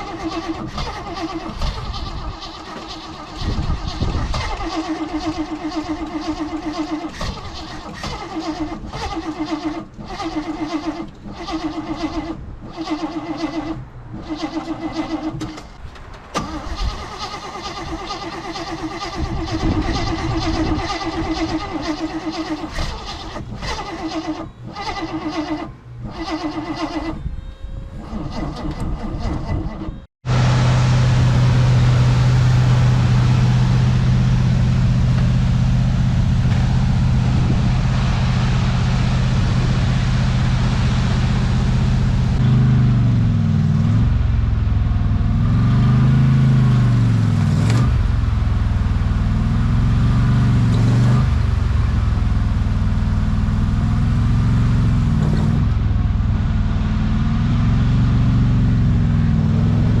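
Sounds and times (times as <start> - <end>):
pickup truck engine revving: 0.0 - 27.2, 28.0 - 60.0.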